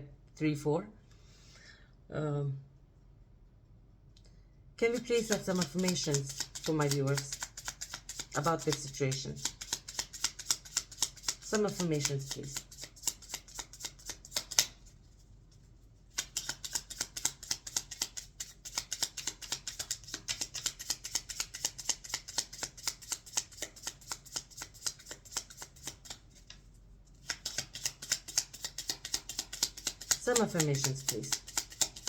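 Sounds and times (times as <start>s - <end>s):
cards being shuffled by hand: 4.9s - 32.0s.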